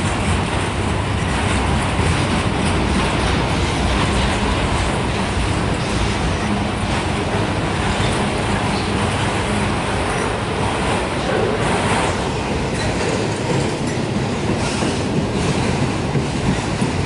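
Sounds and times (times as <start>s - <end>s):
steel train wheels on rails: 0.0s - 17.0s.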